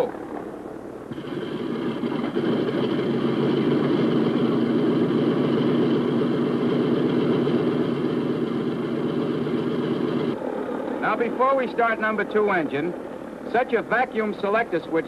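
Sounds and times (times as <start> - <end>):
radial engine idling: 0.0 - 15.0.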